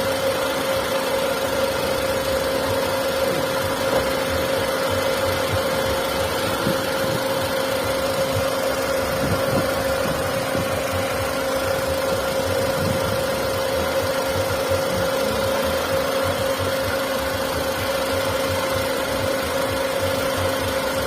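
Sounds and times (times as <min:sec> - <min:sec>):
car engine idling: 0:00.0 - 0:21.0
constant engine whine: 0:00.0 - 0:21.0.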